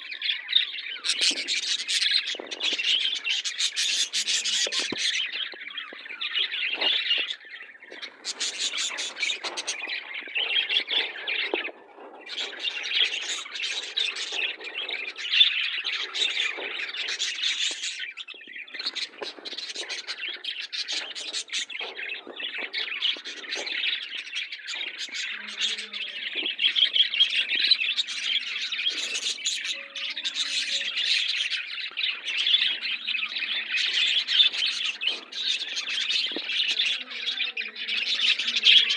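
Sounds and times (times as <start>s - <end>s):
parakeets chattering and squawking: 0.0s - 38.9s.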